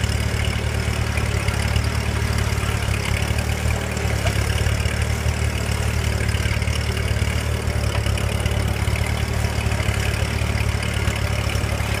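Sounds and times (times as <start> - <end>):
tractor engine pulsing under load: 0.0 - 12.0.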